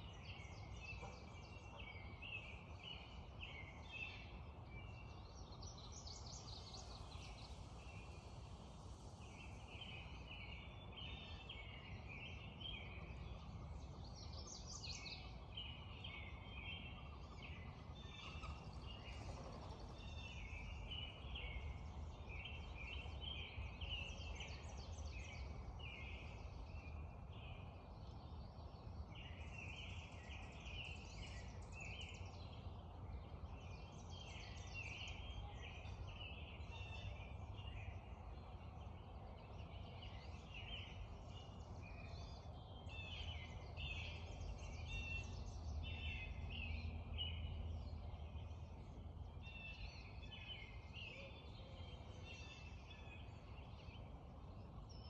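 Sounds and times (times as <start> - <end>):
songbirds chirping and trilling: 0.0 - 55.0
low background rush: 0.1 - 55.0.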